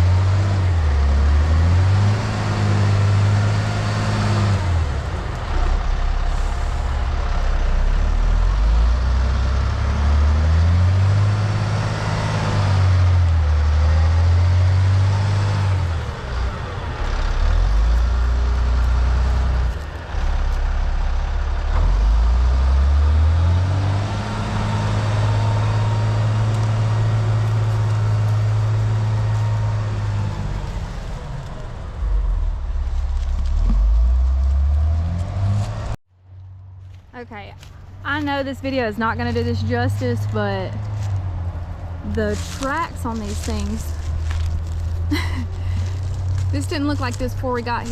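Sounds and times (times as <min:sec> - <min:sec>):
diesel engine revving: 0:00.0 - 0:36.0, 0:37.8 - 0:47.9.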